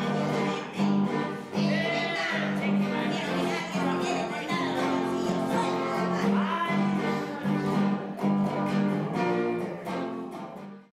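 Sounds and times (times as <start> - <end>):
accordion notes: 0.0 - 10.0
electric guitar strumming: 0.0 - 10.9.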